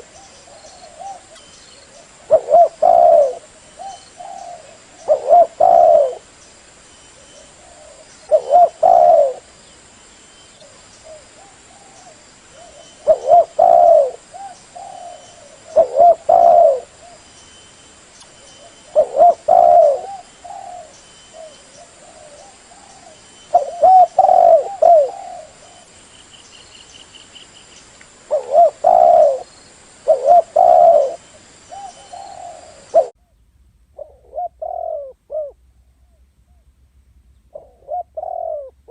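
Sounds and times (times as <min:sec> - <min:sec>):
dove cooing: 0:00.0 - 0:06.3, 0:07.2 - 0:09.6, 0:10.6 - 0:17.3, 0:18.6 - 0:26.0, 0:28.3 - 0:33.2, 0:34.0 - 0:36.6, 0:37.5 - 0:38.9.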